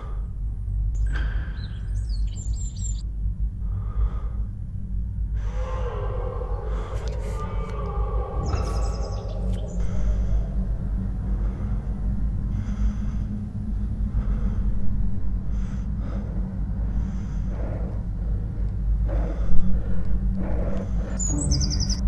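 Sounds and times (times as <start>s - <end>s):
man breathing heavily: 0.0s - 0.9s, 3.0s - 22.0s
deep rumbling drone: 0.0s - 22.0s.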